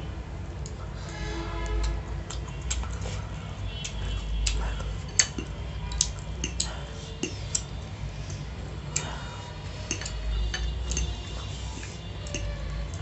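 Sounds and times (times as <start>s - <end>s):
chewing: 1.7s - 12.9s.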